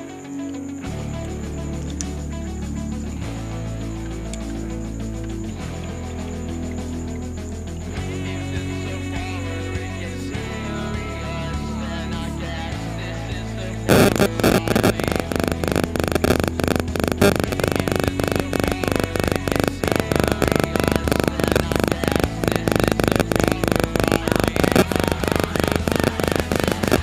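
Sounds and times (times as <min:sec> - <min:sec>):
pulsing electronic buzzing: 0:00.0 - 0:27.0
steady low hum: 0:00.8 - 0:27.0.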